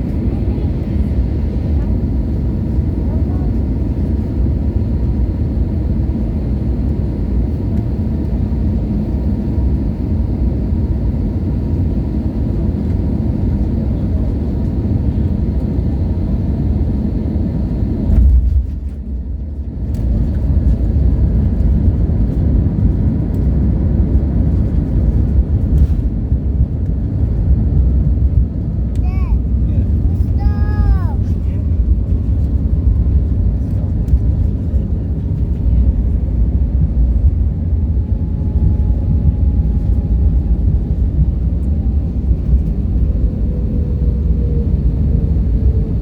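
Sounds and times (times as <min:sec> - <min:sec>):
airplane cabin rumble: 0:00.0 - 0:46.0.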